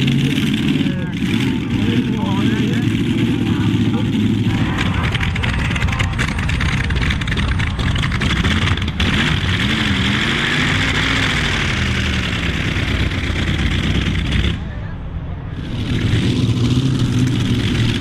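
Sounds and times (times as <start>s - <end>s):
racing engine at low revs: 0.0s - 18.0s.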